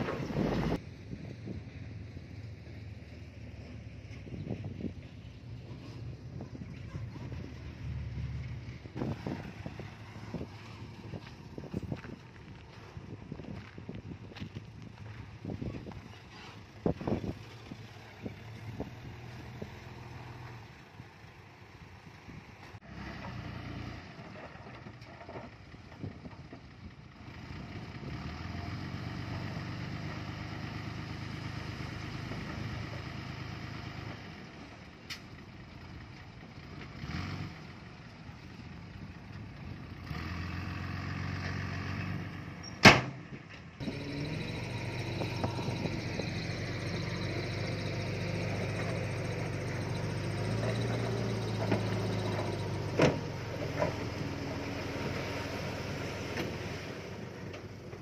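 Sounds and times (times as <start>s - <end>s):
diesel engines under load: 0.0s - 58.0s.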